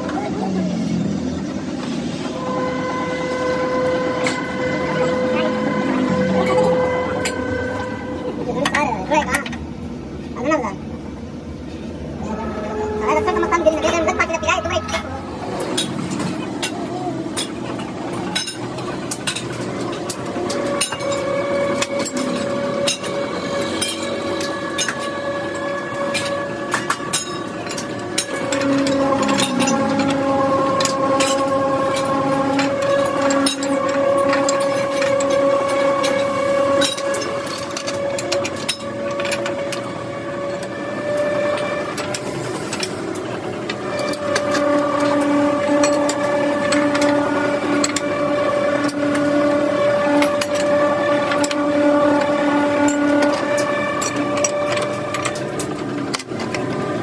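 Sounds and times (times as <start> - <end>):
machinery hum with whine: 0.0 - 57.0.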